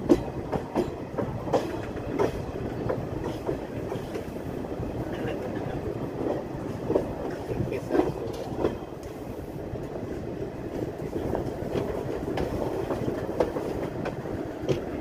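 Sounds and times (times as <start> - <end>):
train coach rumbling on rails: 0.0 - 15.0.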